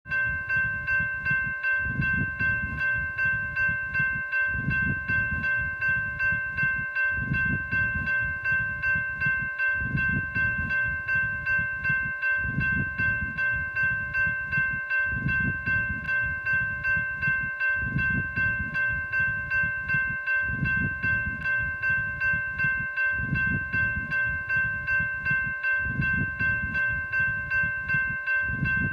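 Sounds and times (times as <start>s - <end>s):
electronic railroad crossing bell: 0.0s - 28.9s.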